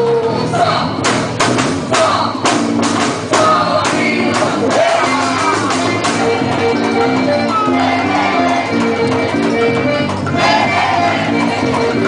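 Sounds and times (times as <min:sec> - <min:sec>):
loud festival music: 0:00.0 - 0:12.0
sharp percussive hits: 0:01.0 - 0:12.0.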